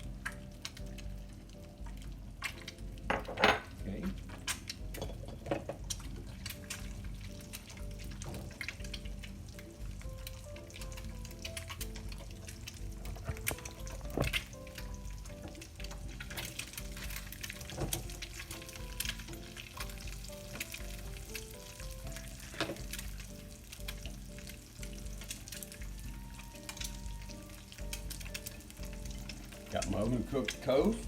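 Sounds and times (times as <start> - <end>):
background music: 0.0 - 31.0
eggs sizzling in a pan: 0.0 - 31.0.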